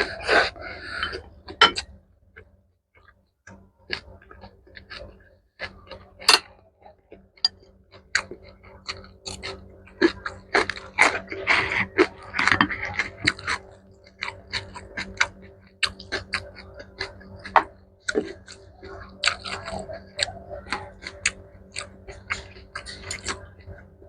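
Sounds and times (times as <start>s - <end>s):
person chewing food: 0.0s - 2.0s, 3.0s - 24.0s.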